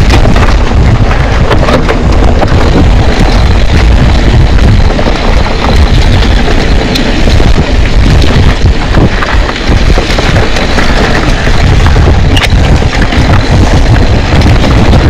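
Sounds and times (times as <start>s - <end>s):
bike knocks and rattles: 0.0s - 15.0s
wind buffeting microphone: 0.0s - 15.0s.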